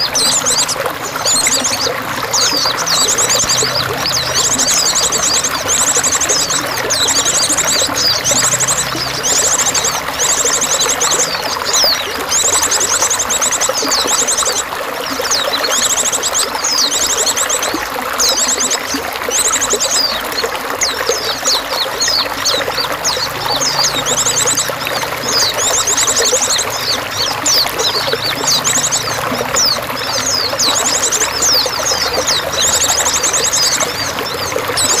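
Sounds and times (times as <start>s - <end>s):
small birds trilling and chirping: 0.0s - 35.0s
water trickling and pouring: 0.0s - 35.0s.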